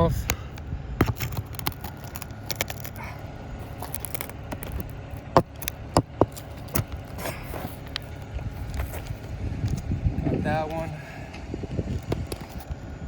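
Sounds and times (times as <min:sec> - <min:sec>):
shingle ripper scraping nail: 0:00.0 - 0:09.8, 0:12.0 - 0:12.7.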